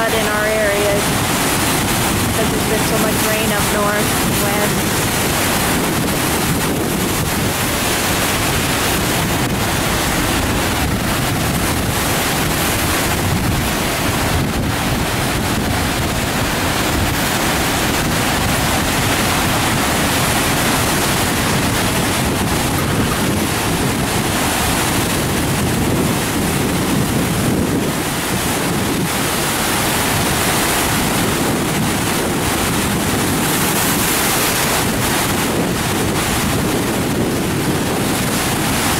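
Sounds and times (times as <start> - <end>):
floodwater rushing: 0.0 - 38.9
wind buffeting microphone: 0.0 - 38.9.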